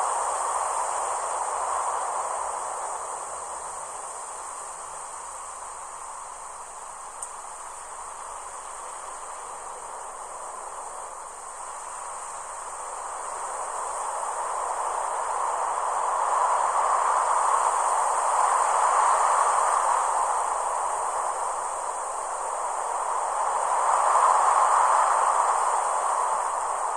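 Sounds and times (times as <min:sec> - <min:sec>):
insects chirring: 0:00.0 - 0:26.9.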